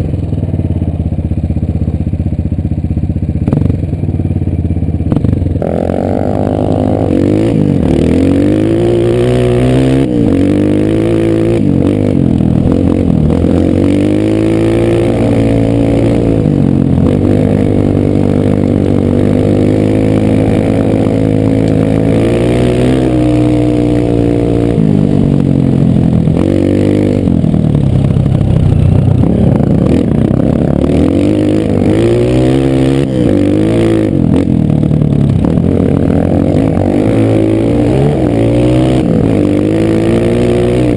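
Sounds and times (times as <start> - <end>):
dirt bike engine revving: 5.1 - 40.9.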